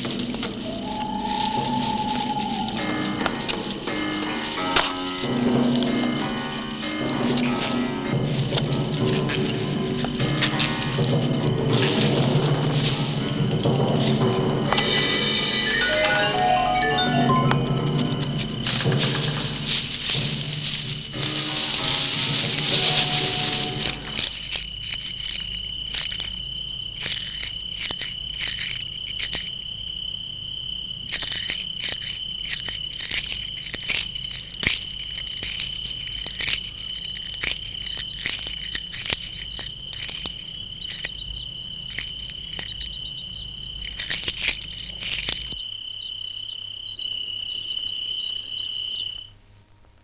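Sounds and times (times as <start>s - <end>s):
tortoise chewing plant shoots: 0.0s - 15.4s, 17.8s - 49.3s
high insect trill: 0.0s - 49.6s.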